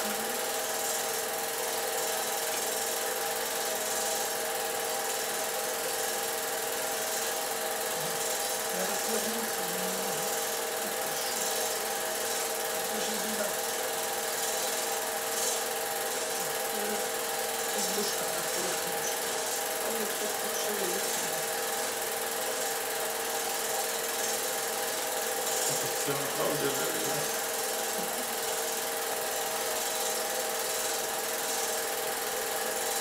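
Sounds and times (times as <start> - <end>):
film projector whirring: 0.0 - 33.0.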